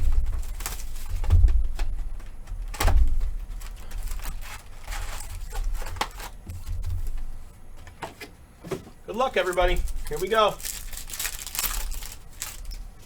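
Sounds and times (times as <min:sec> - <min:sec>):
card packs clicking and rustling: 0:00.0 - 0:13.0.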